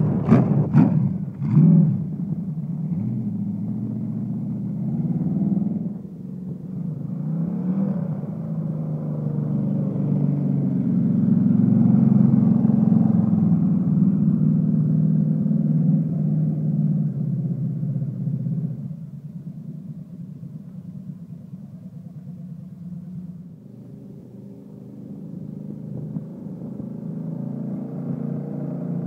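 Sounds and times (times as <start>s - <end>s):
engine blipped and running: 0.0s - 29.0s.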